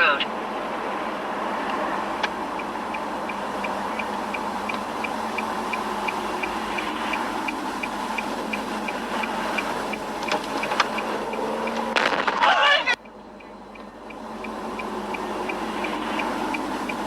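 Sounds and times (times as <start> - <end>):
car engine and road noise: 0.0 - 17.0
turn signal ticking: 1.4 - 17.0.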